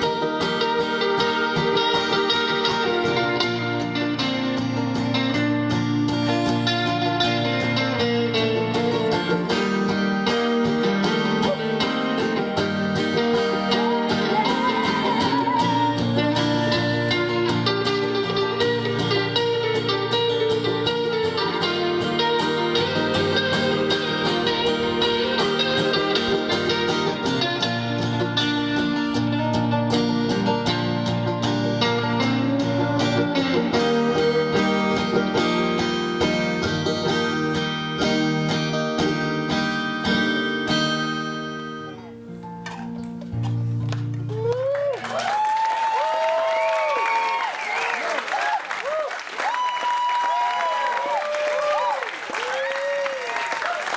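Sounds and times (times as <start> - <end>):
live band playing: 0.0 - 45.5
guitar: 0.0 - 53.9.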